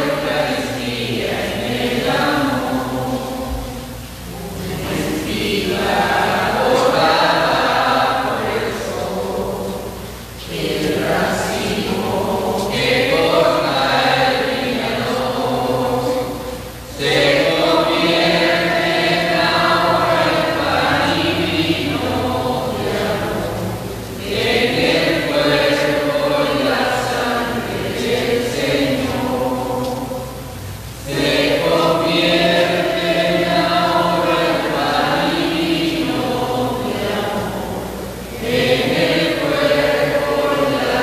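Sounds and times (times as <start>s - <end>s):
group singing a slow hymn: 0.0s - 41.0s.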